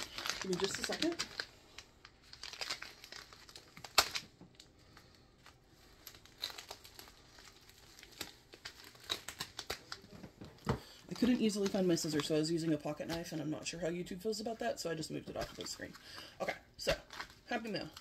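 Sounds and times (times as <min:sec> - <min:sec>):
plastic mailer crinkling and tearing: 0:00.0 - 0:18.0.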